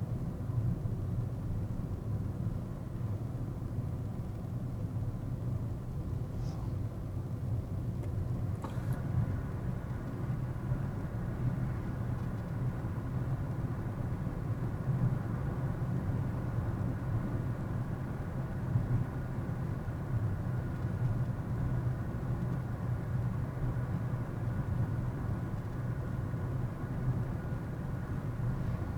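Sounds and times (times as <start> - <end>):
car engine and tyre rumble: 0.0 - 28.9.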